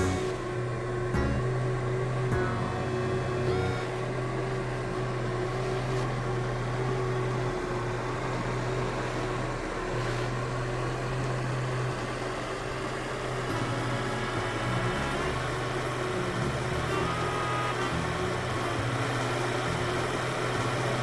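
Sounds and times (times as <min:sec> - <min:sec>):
electric fan motor hum: 0:00.0 - 0:21.0.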